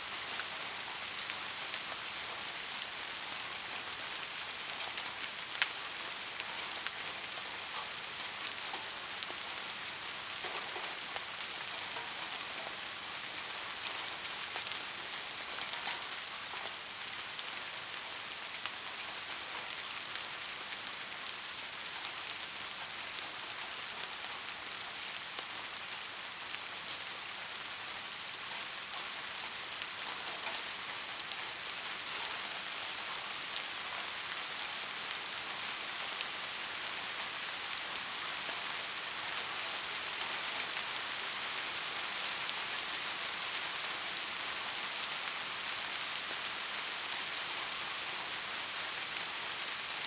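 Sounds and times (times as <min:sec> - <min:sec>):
steady rain hiss: 0:00.0 - 0:50.0
ticks of raindrops: 0:00.0 - 0:50.0.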